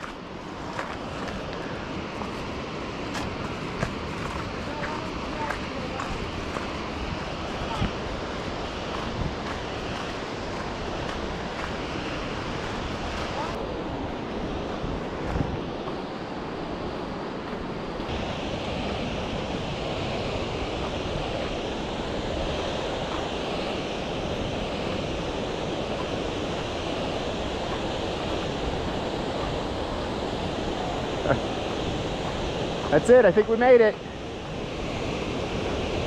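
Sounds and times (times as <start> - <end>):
waterfall roaring: 0.0 - 36.0
wind on microphone: 0.0 - 36.0.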